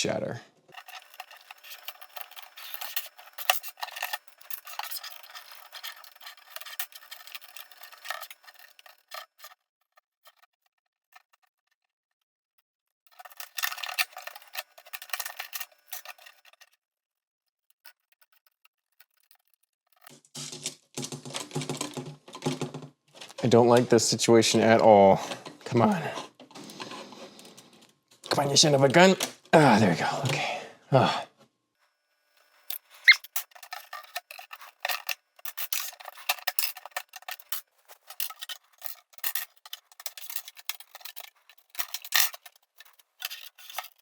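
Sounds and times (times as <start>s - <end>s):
plastic bricks scraping and clicking: 0.7s - 11.9s, 13.0s - 16.8s, 17.5s - 30.4s, 32.4s - 44.0s.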